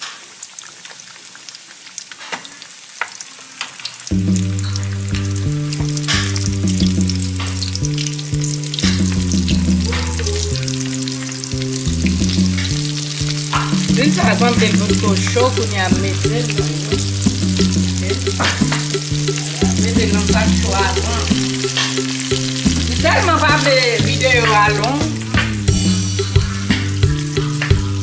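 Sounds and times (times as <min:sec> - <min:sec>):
chicken frying in oil: 0:00.0 - 0:28.0
background music with low notes: 0:04.1 - 0:28.0.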